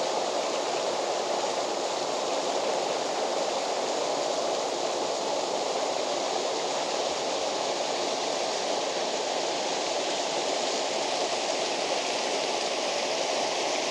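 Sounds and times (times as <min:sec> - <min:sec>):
waterfall roaring: 0:00.0 - 0:13.9.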